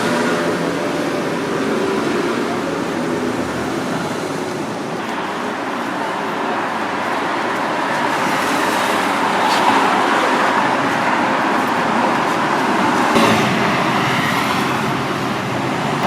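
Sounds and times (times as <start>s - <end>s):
street traffic passing: 0.0s - 16.0s.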